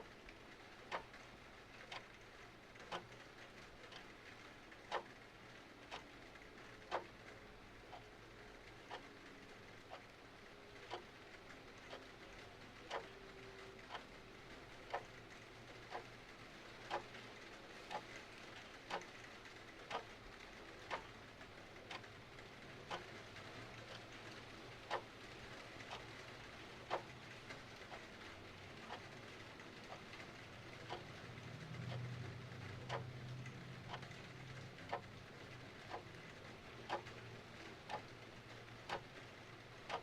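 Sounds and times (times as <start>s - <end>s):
clock ticking: 0.0s - 40.0s
faint hiss of rain: 0.0s - 40.0s.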